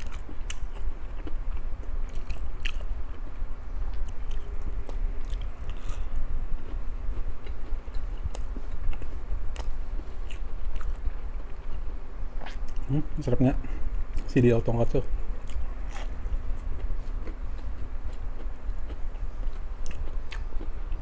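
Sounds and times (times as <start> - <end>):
chewing crunchy fried food: 0.0 - 21.0
faint low hum: 0.0 - 21.0.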